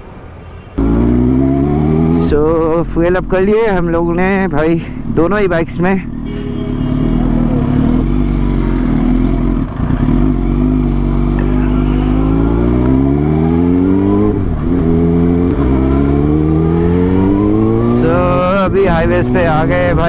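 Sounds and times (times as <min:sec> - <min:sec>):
motorcycle engine revving: 0:00.8 - 0:04.5, 0:06.0 - 0:20.0.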